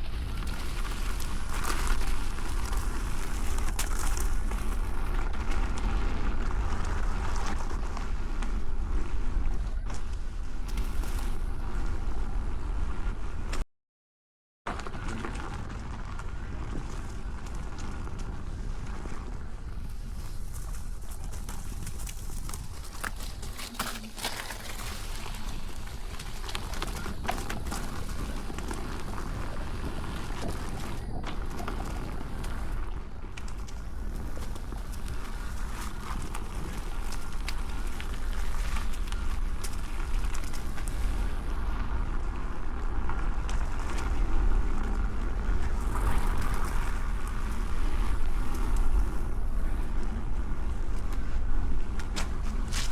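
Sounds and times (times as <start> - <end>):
clicks and crackles: 0.0 - 12.0, 14.7 - 52.9
wind rumbling on microphone: 0.0 - 13.6, 14.7 - 52.9.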